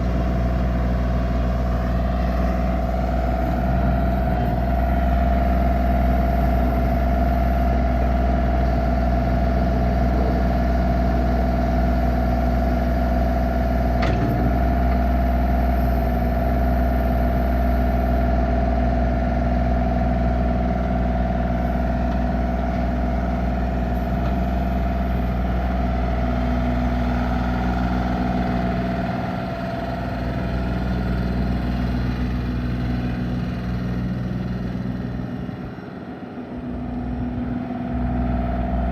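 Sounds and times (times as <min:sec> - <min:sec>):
diesel engine running: 0:00.0 - 0:38.9
engine whine: 0:00.0 - 0:38.9.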